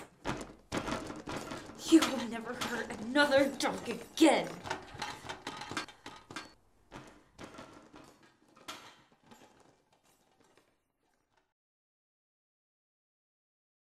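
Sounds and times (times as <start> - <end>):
thumps and scuffling: 0.0 - 11.5.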